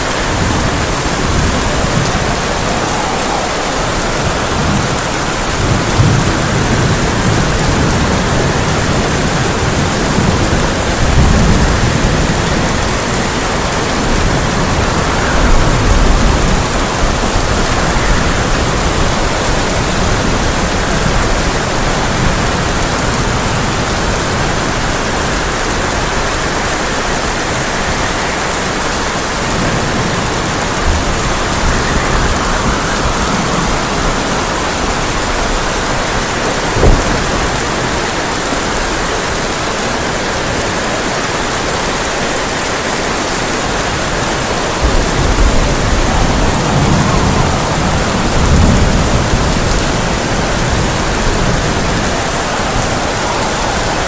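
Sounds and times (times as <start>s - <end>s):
heavy rain on a tin roof: 0.0s - 54.0s
thunder rumbling: 0.0s - 54.0s.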